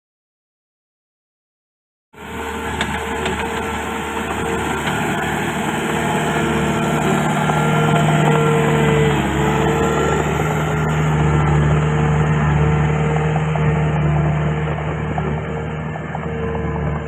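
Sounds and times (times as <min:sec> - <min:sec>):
bulldozer diesel engine running: 0:02.2 - 0:17.0.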